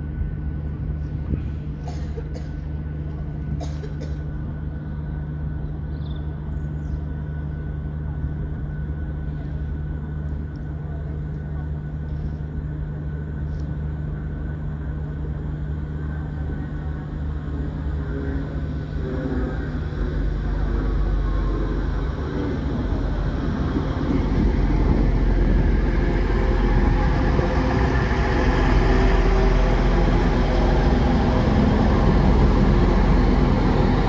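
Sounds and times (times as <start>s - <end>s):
diesel train engine hum: 0.0s - 34.0s.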